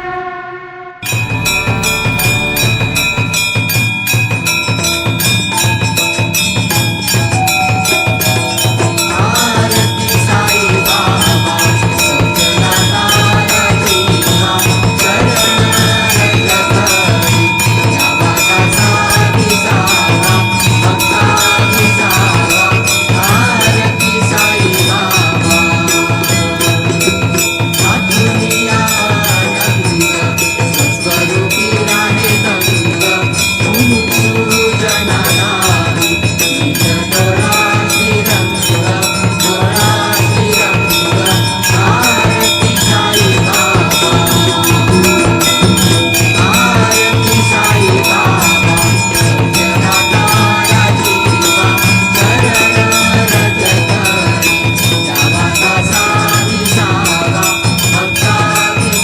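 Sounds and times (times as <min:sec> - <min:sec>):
bell rung rapidly: 0:01.0 - 0:59.0
wavering melody: 0:01.0 - 0:59.0.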